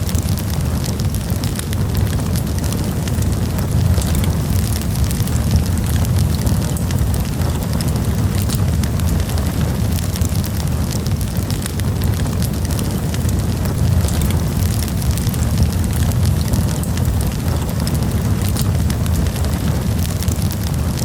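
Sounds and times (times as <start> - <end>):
low rumble of flames: 0.0 - 21.0
wood crackling and popping: 0.0 - 21.0.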